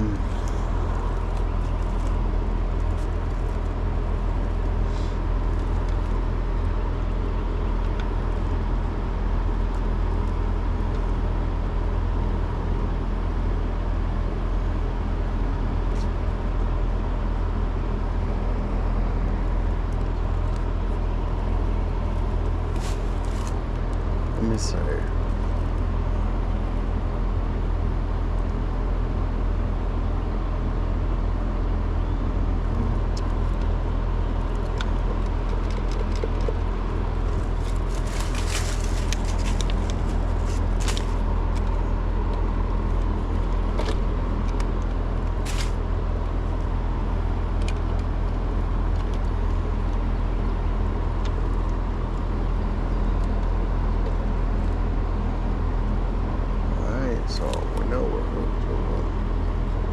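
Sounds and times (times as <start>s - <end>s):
air conditioner humming: 0.0s - 59.9s.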